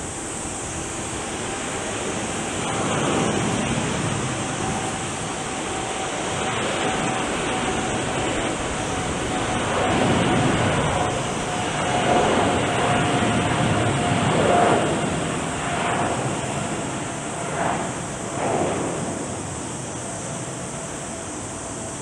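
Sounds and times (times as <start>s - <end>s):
faint jet engine whine: 0.0s - 22.0s
jet engines roaring: 0.0s - 22.0s.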